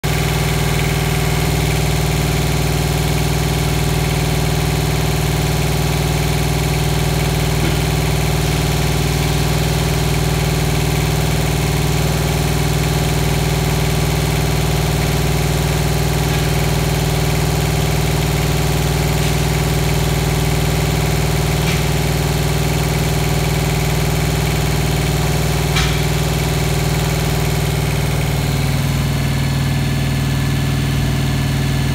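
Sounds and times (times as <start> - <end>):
small diesel engine idling: 0.0 - 31.9.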